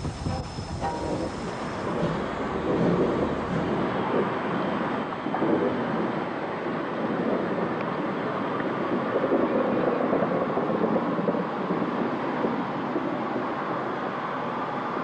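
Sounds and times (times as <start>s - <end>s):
steam locomotive rumbling and hissing: 0.0s - 15.0s.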